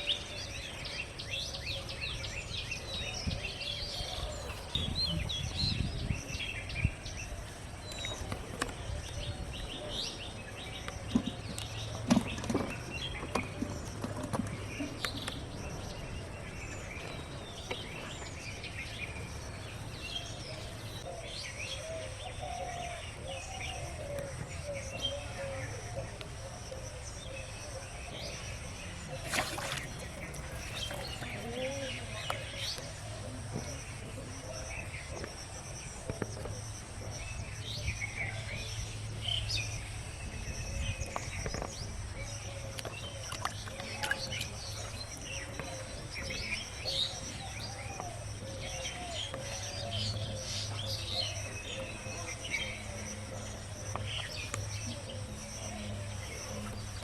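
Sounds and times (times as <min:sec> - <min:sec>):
outdoor background noise: 0:00.0 - 0:57.0
small birds chirping: 0:00.0 - 0:57.0.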